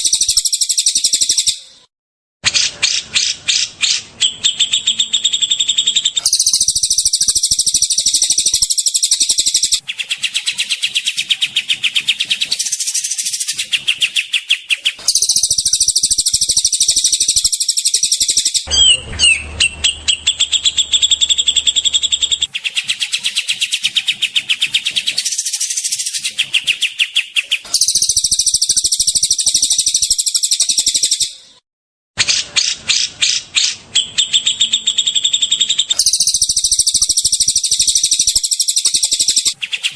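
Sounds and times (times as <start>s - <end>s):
songbird calls and chattering trills: 0.0s - 1.7s, 2.9s - 31.4s, 32.6s - 39.9s.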